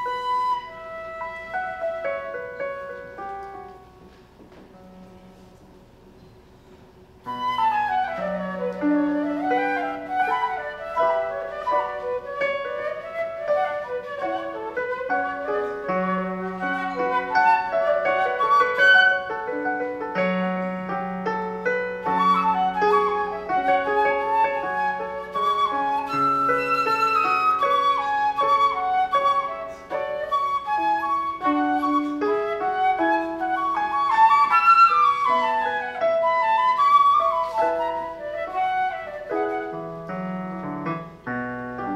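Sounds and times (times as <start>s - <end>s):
flute melody: 0.0s - 3.9s, 7.2s - 41.9s
piano accompaniment: 0.0s - 41.9s.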